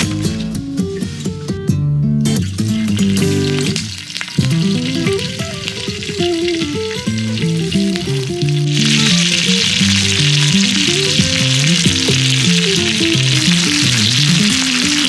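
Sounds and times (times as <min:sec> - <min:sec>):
food sizzling on a griddle: 0:02.5 - 0:15.0.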